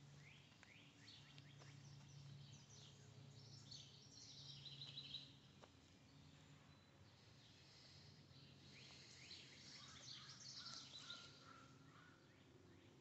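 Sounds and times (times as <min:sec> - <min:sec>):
low steady hum: 0:00.0 - 0:13.0
small birds chirping: 0:00.0 - 0:13.0.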